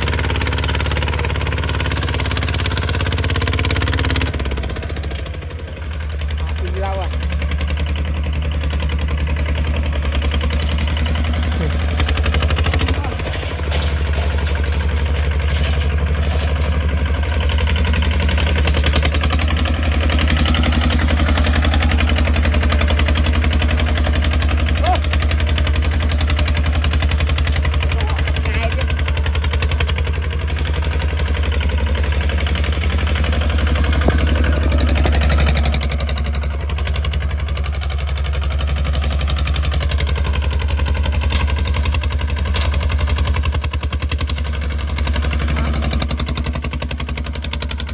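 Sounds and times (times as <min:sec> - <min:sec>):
tractor diesel engine chugging: 0:00.0 - 0:47.9.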